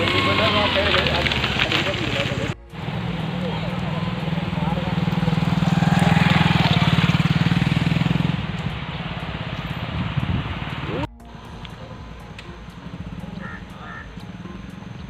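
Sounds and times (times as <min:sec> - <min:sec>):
motorcycle engine passing by: 0:00.0 - 0:15.0.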